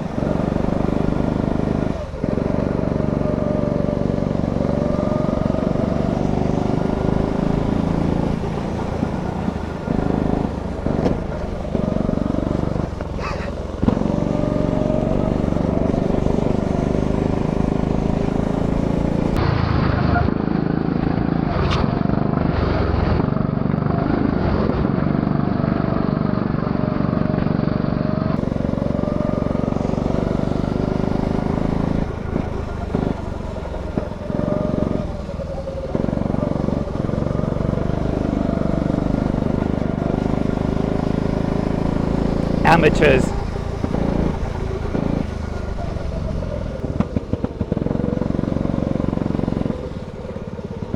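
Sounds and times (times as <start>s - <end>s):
go-kart engine running hard: 0.0s - 50.9s.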